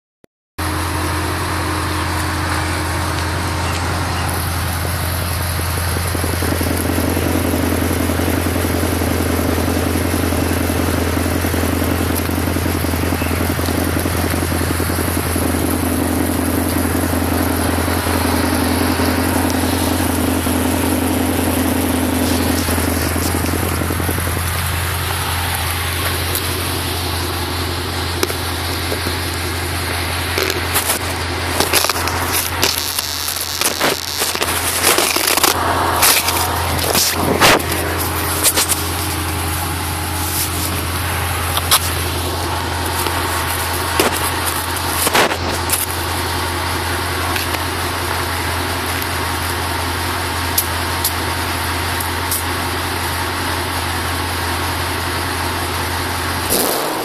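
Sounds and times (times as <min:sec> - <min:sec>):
car engine idling: 0:00.6 - 0:57.0.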